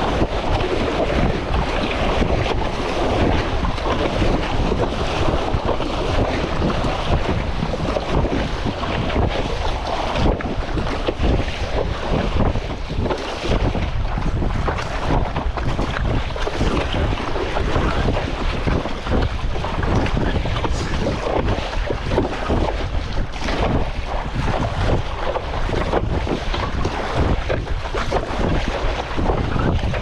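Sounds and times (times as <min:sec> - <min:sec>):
water splashing and sloshing: 0:00.0 - 0:30.0
wind buffeting microphone: 0:00.0 - 0:30.0.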